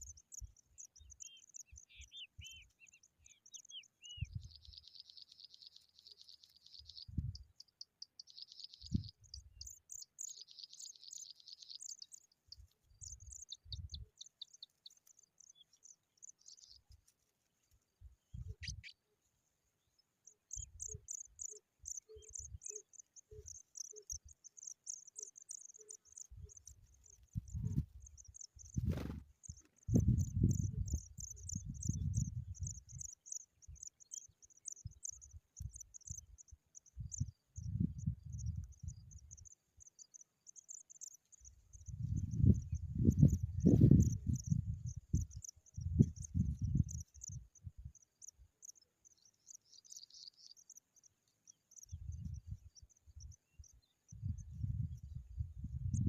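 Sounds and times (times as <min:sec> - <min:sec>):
insects chirping: 0:00.0 - 0:18.9, 0:19.7 - 0:56.0
bird chirps: 0:00.0 - 0:56.0.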